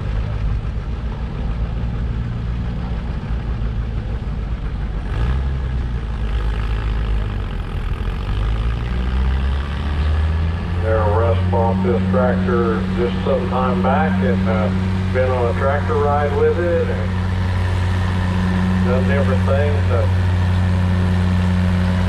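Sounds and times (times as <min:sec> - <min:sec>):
tractor engine under load: 0:00.0 - 0:22.0.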